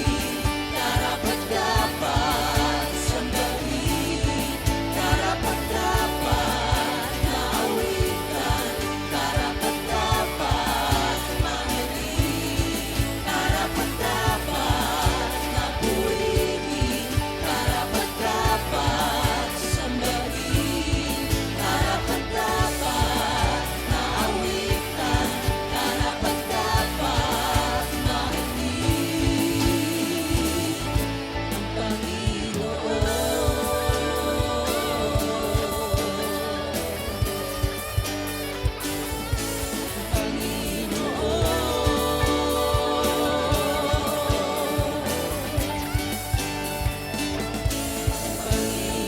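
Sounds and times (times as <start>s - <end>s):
band with drum beat: 0.0s - 49.0s
sustained bass: 0.0s - 49.0s
voices singing worship song: 0.0s - 49.0s.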